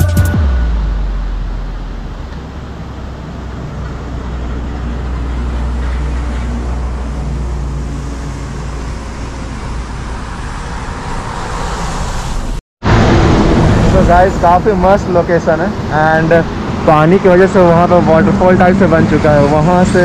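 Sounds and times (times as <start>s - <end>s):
trucks engine rumble: 0.0s - 20.0s
tyres on wet road: 0.7s - 20.0s.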